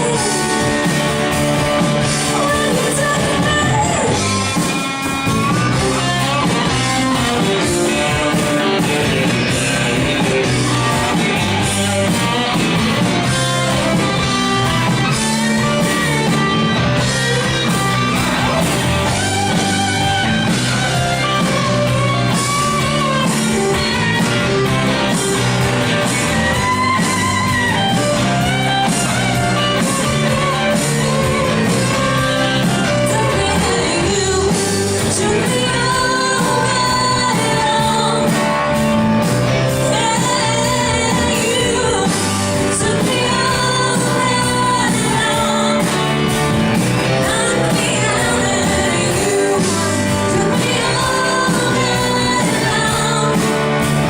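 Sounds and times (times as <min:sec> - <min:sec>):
electric guitar: 0:00.0 - 0:54.0
rock band playing: 0:00.0 - 0:54.0.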